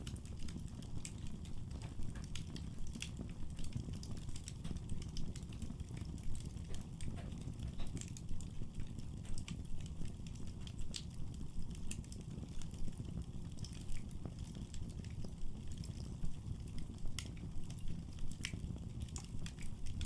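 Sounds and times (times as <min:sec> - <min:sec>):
fire crackling and popping: 0:00.0 - 0:20.0
low rumble of fire: 0:00.0 - 0:20.0.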